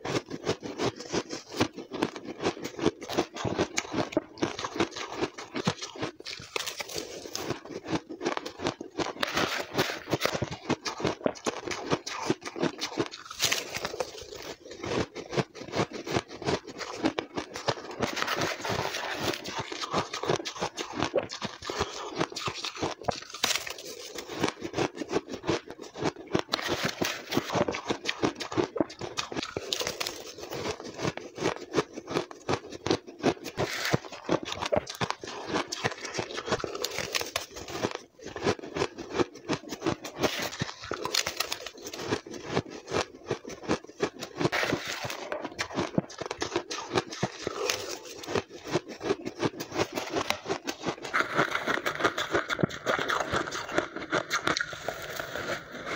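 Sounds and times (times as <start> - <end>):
person crunching ice: 0.0 - 55.9.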